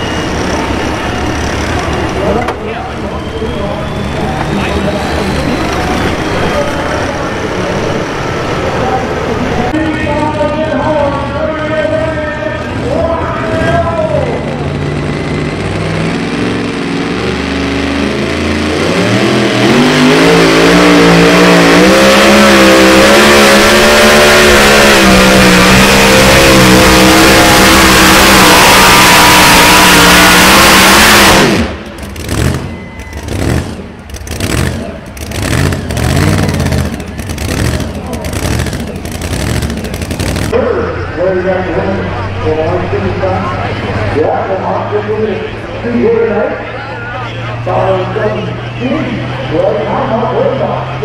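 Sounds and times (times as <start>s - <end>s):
supercharged truck engine at full throttle: 0.0s - 51.0s.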